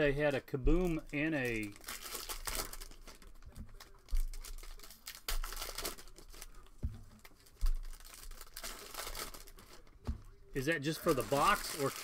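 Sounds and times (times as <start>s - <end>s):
foil wrapper crinkling and tearing: 0.3s - 9.9s, 10.9s - 12.0s.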